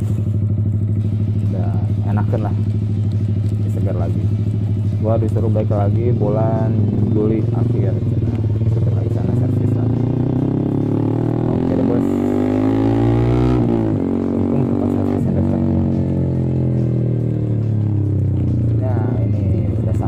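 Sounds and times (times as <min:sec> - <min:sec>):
loud motorcycle engine pulling away: 0:00.0 - 0:20.0.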